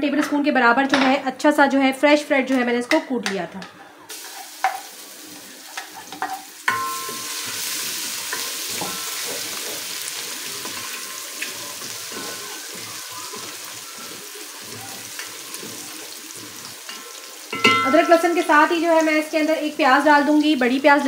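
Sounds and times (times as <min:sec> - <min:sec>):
onion sizzling in hot oil: 0:04.1 - 0:21.0.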